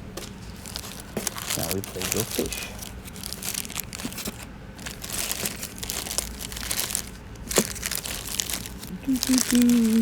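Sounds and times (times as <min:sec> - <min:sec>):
plastic bags crinkling: 0:00.2 - 0:10.0.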